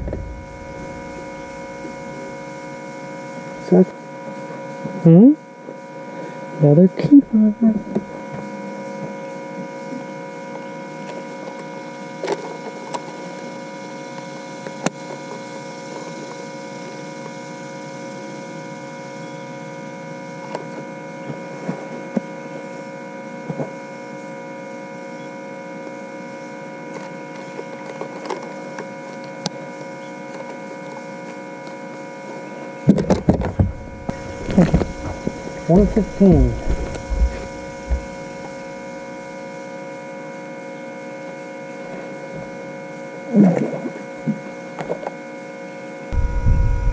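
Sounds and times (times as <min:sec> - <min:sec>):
high electrical hum: 0:00.0 - 0:46.9.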